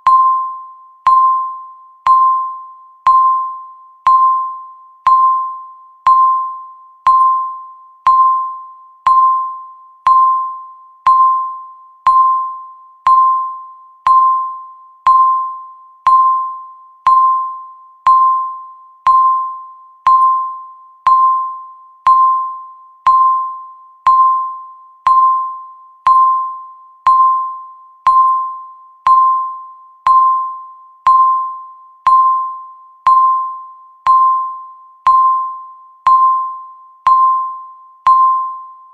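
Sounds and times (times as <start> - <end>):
countdown timer beeps: 0.0 - 38.9.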